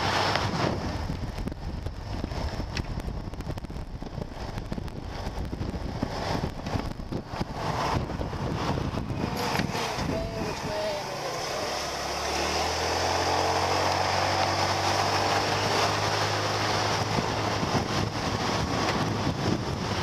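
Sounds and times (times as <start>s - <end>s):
motorbike engine: 0.0s - 20.0s
wind rushing over microphone: 0.0s - 20.0s.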